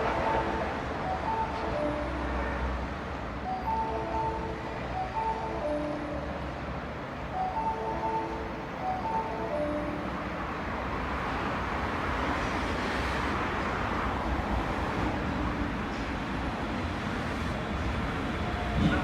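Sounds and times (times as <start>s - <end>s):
train running along platform: 0.0s - 19.0s.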